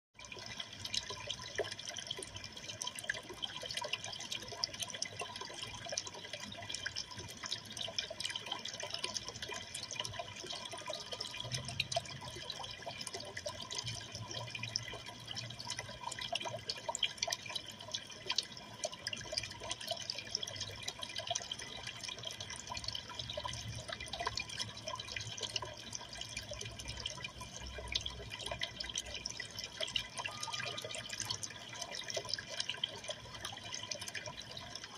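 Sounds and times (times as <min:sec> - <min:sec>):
aquarium water trickling and bubbling: 0:00.2 - 0:34.9
tiny drips and splashes: 0:00.2 - 0:34.9.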